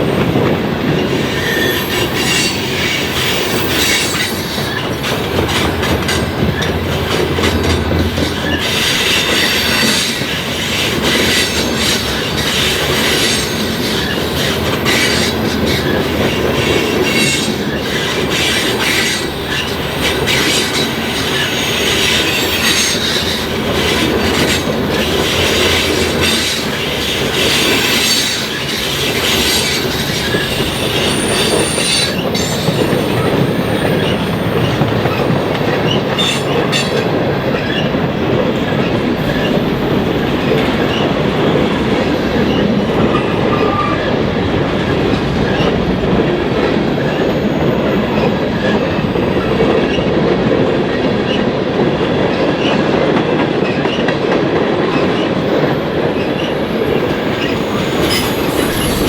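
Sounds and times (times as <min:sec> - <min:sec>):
freight train cars rolling past: 0:00.0 - 0:59.0
wheels clicking over rail joints: 0:00.3 - 0:59.0.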